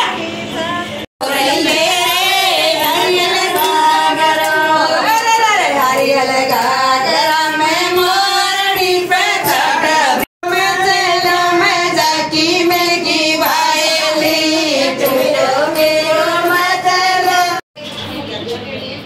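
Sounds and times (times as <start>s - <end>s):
women singing folk song: 0.0s - 17.6s.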